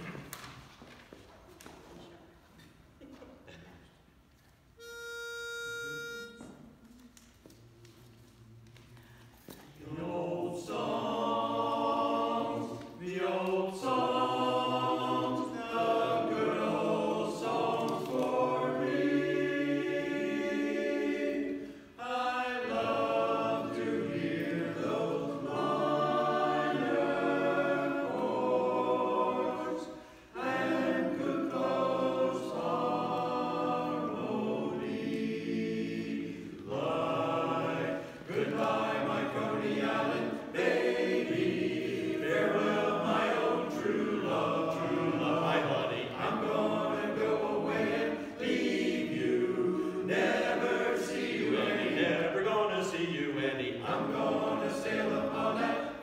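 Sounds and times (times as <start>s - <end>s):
barbershop chorus singing: 9.8s - 56.0s.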